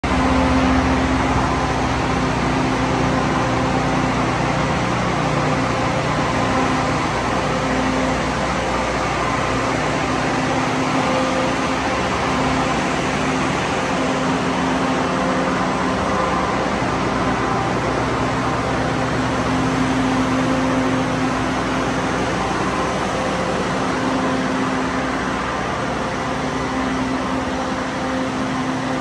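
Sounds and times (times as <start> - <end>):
transformer electrical hum: 0.0 - 29.0.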